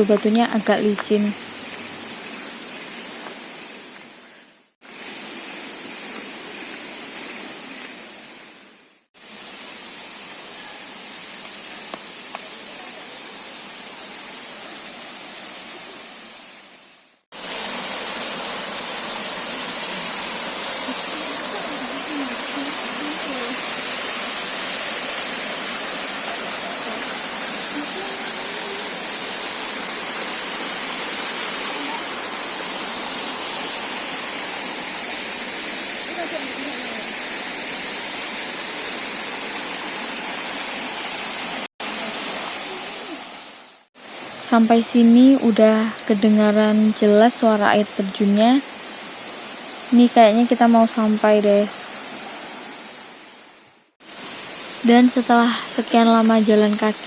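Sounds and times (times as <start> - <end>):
flowing water rushing: 0.0 - 4.0, 4.8 - 57.0.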